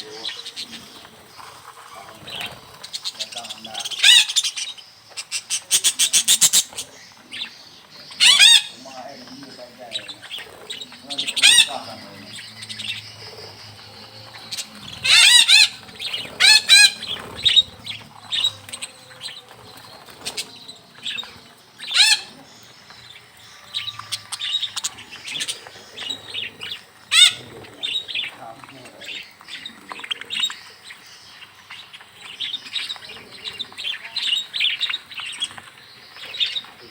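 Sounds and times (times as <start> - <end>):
budgerigars chattering: 0.0 - 36.9
louder bird calls: 0.0 - 36.9
wings fluttering: 0.0 - 36.9.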